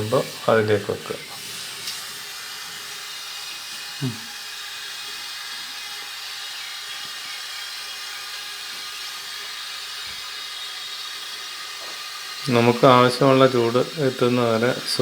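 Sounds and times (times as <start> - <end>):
steam hissing from pressure cooker: 0.0 - 15.0.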